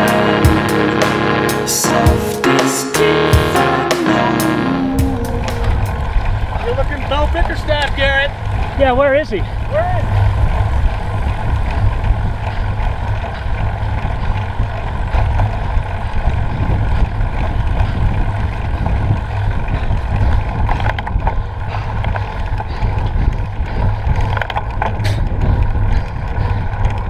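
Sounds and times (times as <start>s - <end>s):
wind buffeting microphone: 4.6s - 27.0s.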